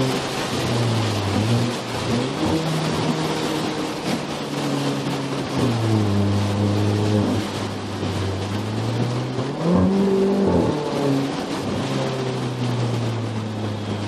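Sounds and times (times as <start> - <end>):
car engine and exhaust: 0.0 - 14.0
road noise: 0.0 - 14.0.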